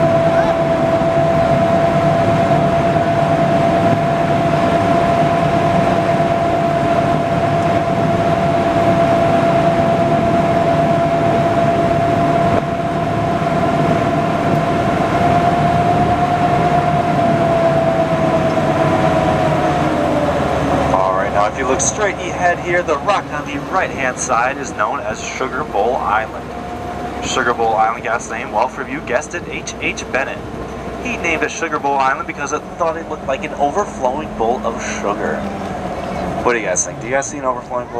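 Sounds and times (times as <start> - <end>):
boat engine drone with whine: 0.0 - 37.9.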